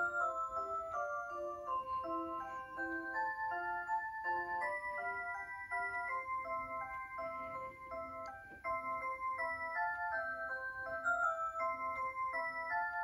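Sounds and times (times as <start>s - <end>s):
musical clock melody: 0.0s - 13.0s.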